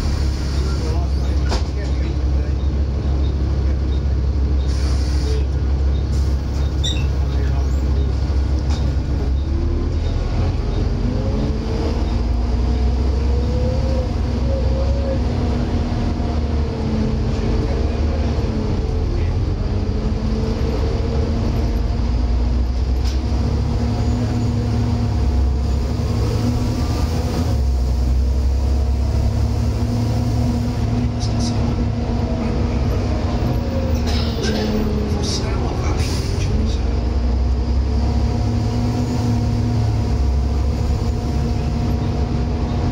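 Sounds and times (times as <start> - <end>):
diesel bus engine rumble: 0.0 - 42.9.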